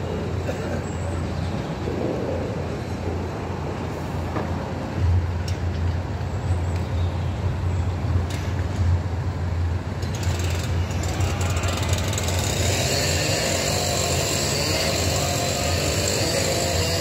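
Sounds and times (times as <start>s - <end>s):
construction machinery engines rumbling: 0.0s - 17.0s.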